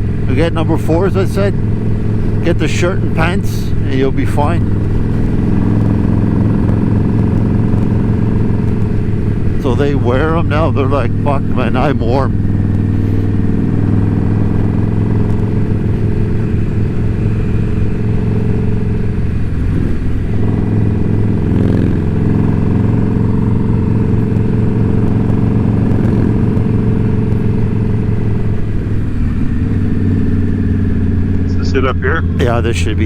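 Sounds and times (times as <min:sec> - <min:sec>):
motorcycle engine cruising: 0:00.0 - 0:33.0.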